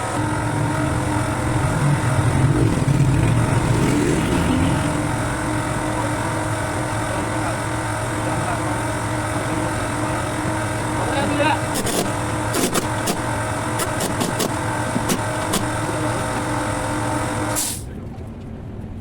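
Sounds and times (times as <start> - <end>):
motor humming: 0.0 - 17.6.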